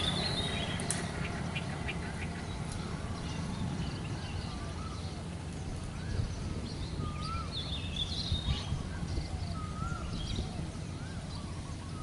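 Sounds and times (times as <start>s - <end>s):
bird warbling call: 0.0s - 12.0s
birds chirping: 0.0s - 12.0s.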